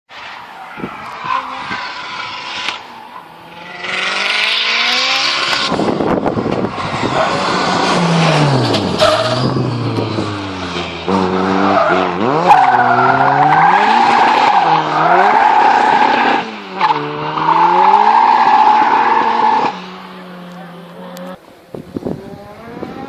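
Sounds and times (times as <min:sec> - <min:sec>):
high tyre squeal: 0:00.1 - 0:05.7, 0:06.7 - 0:20.0
race car engine revving: 0:01.0 - 0:23.0.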